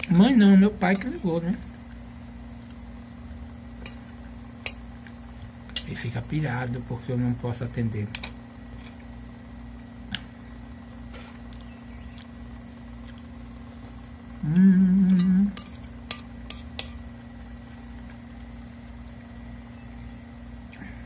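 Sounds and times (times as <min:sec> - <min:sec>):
loud low buzzing hum: 0:00.0 - 0:21.0
steady low hum: 0:00.0 - 0:21.0.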